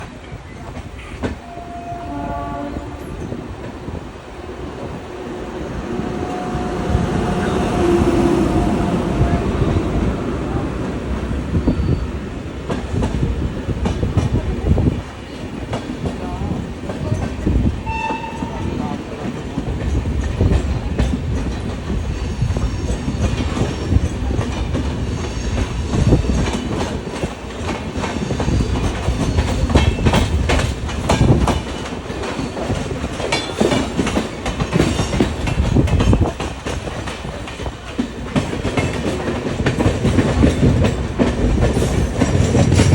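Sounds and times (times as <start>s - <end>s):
train wheels clacking on rails: 0.0s - 2.1s, 2.8s - 42.9s
train low rumble: 0.0s - 42.9s.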